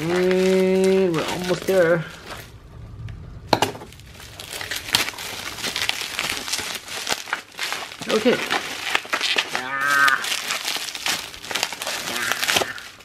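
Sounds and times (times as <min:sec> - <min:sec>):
bubble wrap crinkling: 0:00.0 - 0:02.6, 0:03.5 - 0:13.0.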